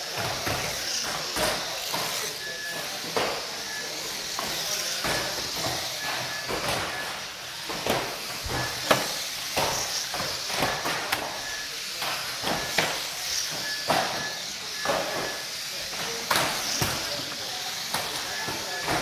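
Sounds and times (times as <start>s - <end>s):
rc car motors whirring: 0.0s - 19.0s.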